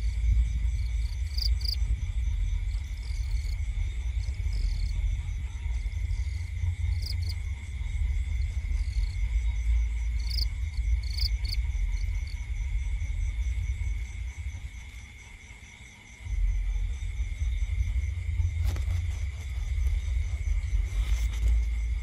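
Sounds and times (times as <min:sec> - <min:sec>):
low microphone rumble: 0:00.0 - 0:15.5, 0:16.2 - 0:22.0
crickets trilling: 0:00.0 - 0:22.0.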